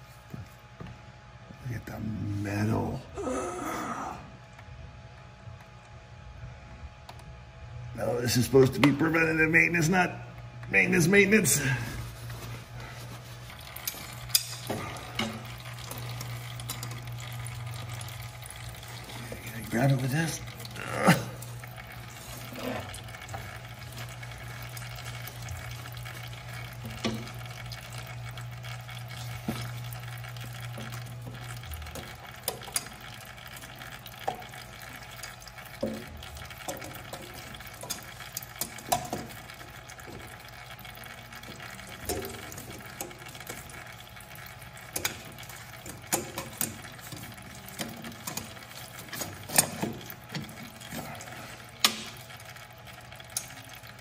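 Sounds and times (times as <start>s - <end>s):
low steady hum: 0.0s - 54.0s
oil trickling and dripping: 8.1s - 54.0s.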